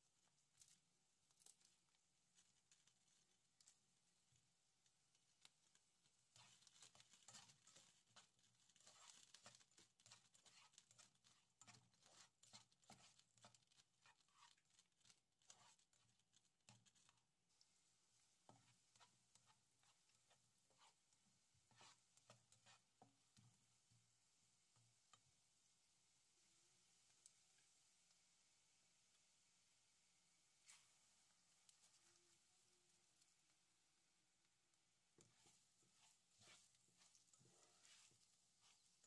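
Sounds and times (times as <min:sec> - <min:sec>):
spices crackling in oil: 0:00.2 - 0:39.0.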